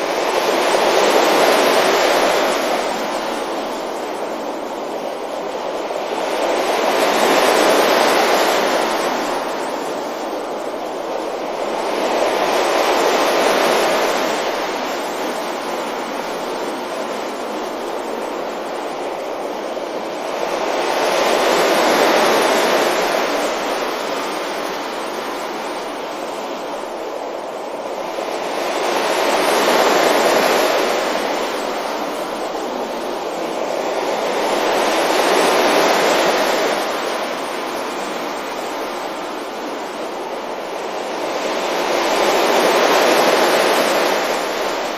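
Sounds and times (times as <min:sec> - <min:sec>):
ocean waves on beach: 0:00.0 - 0:44.9.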